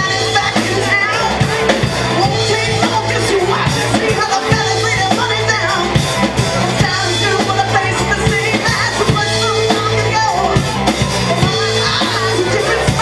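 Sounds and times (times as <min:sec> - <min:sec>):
rock band playing: 0:00.0 - 0:13.0
woman singing: 0:00.0 - 0:13.0.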